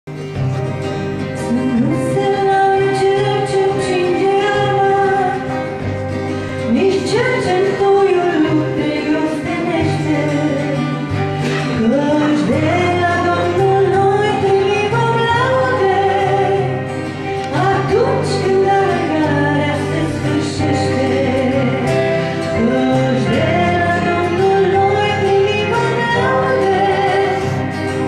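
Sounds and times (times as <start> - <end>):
strummed acoustic guitar: 0.1 - 28.0
woman singing: 1.4 - 5.9, 6.6 - 28.0.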